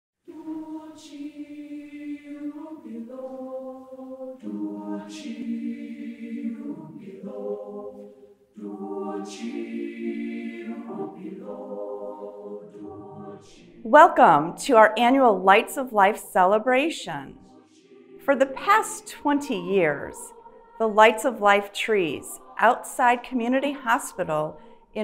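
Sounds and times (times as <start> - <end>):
wordless choir-like voices: 0.3 - 25.0.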